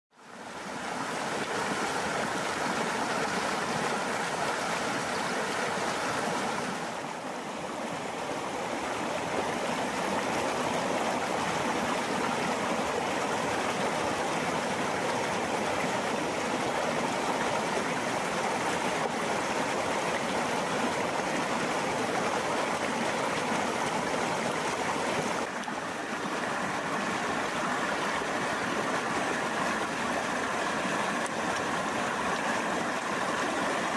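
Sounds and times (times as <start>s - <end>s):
river running over stones: 0.2s - 33.9s.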